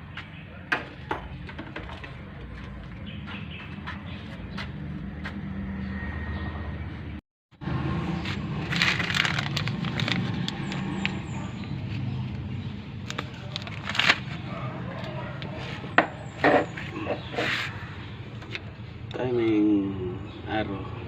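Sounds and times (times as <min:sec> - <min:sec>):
engine low hum: 0:01.1 - 0:21.0.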